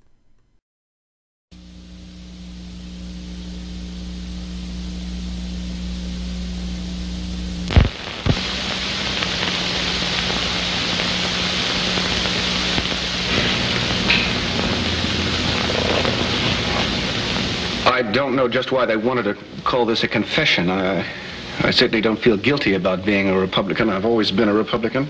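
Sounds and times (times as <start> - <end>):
videotape hum and hiss: 1.6 - 25.0.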